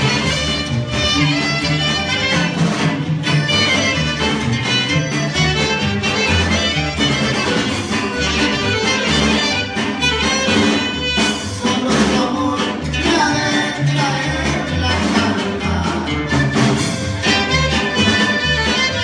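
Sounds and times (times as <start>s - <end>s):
pulsing bass line: 0.0s - 19.0s
regional band music: 0.0s - 19.0s.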